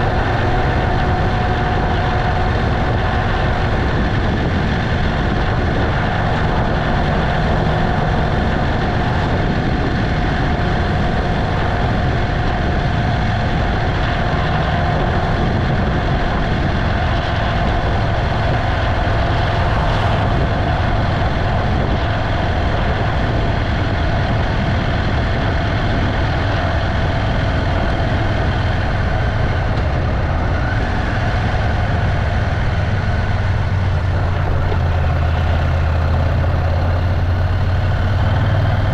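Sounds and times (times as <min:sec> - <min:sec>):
motorcycle engine rumble: 0:00.0 - 0:38.9
road noise: 0:00.0 - 0:38.9.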